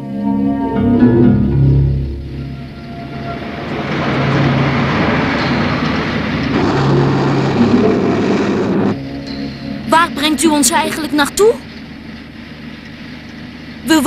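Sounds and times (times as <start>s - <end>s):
truck engine and road rumble: 2.0s - 14.0s.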